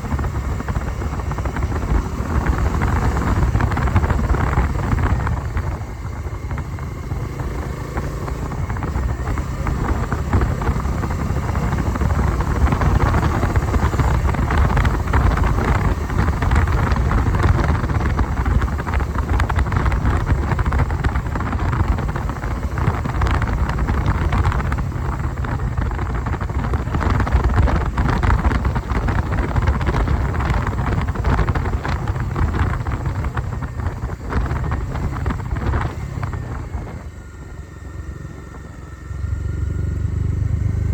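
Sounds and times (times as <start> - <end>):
motorcycle engine and road noise: 0.0 - 40.9
wind buffeting microphone: 0.0 - 40.9.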